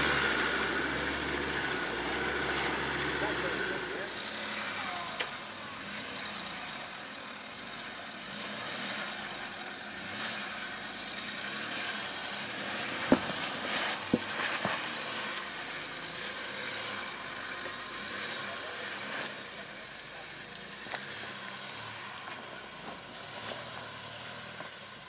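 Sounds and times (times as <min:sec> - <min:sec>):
vehicle engine at low speed: 0:00.0 - 0:25.0.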